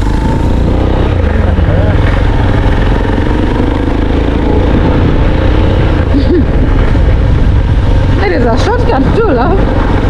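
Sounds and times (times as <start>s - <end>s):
motorbike engine rumbling: 0.0s - 10.0s.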